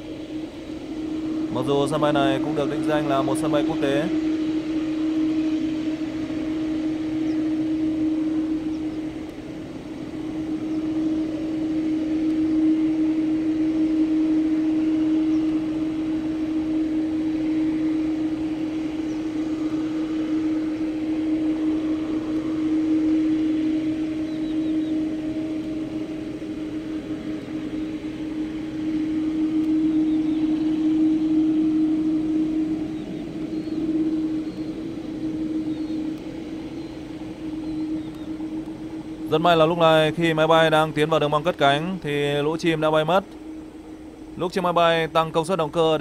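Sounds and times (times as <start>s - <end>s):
jet engines humming: 0.0s - 46.0s.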